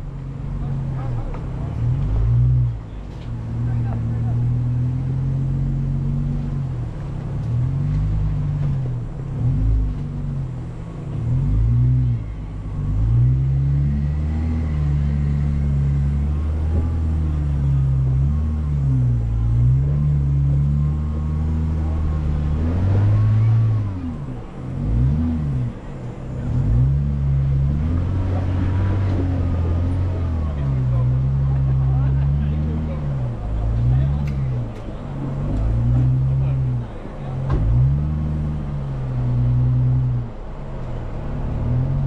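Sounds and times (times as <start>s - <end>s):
car engine running under load: 0.0s - 42.0s.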